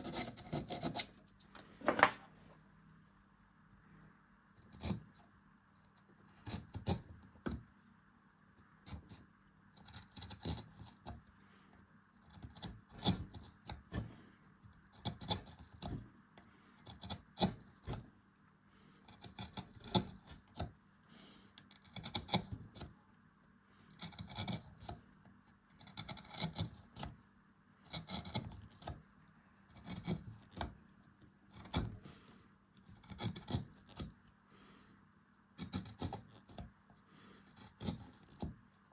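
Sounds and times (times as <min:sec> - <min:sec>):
carving tool scraping wood: 0:00.0 - 0:02.1, 0:04.6 - 0:07.7, 0:08.8 - 0:11.4, 0:12.2 - 0:23.0, 0:23.8 - 0:34.4, 0:35.5 - 0:38.9
faint steady hum: 0:00.0 - 0:38.9.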